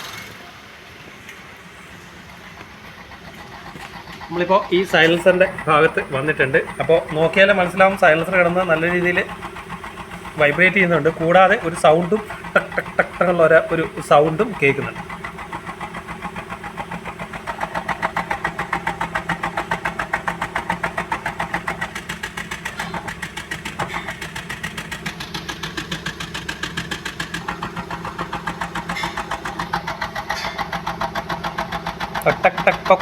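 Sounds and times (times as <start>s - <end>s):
misfiring engine idling at exhaust: 0.0s - 33.0s.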